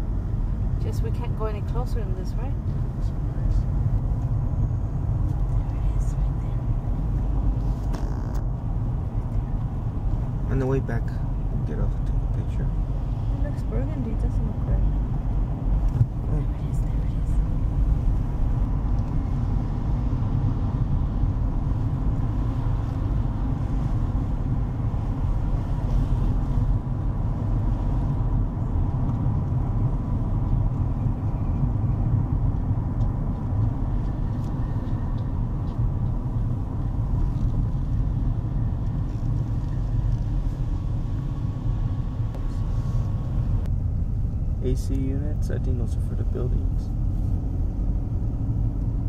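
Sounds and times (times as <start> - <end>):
road and engine rumble in car: 0.0 - 49.0.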